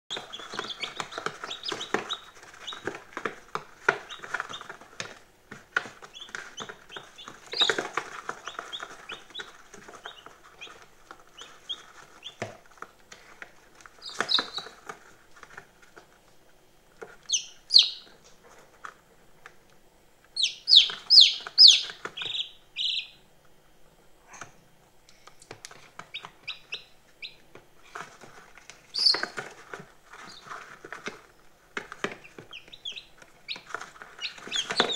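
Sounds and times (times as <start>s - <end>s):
chicks peeping: 0.1s - 16.2s, 17.0s - 19.6s, 20.3s - 23.3s, 25.4s - 34.9s
beaks pecking at feed: 0.1s - 19.6s, 20.2s - 23.2s, 25.1s - 34.9s.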